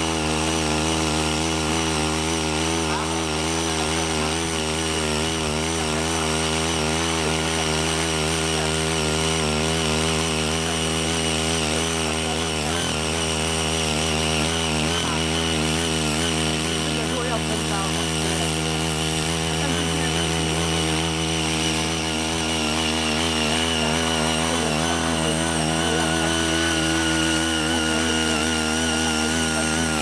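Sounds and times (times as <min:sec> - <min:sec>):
small tiller engine running: 0:00.0 - 0:30.0
tines churning soil: 0:00.0 - 0:30.0.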